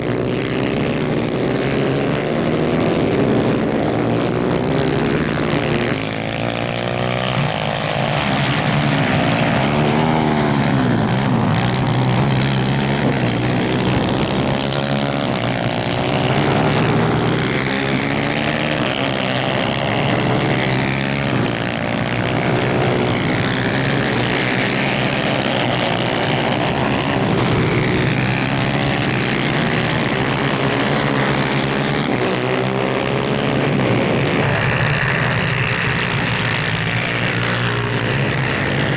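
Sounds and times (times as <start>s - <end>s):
kart engines racing: 0.0s - 38.9s.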